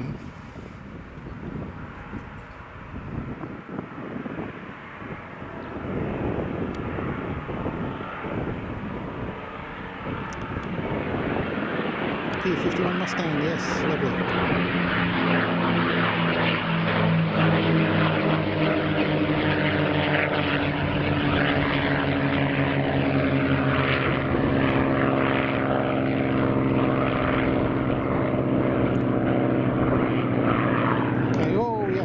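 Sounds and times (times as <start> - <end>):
propeller plane engines flypast: 0.0 - 32.0.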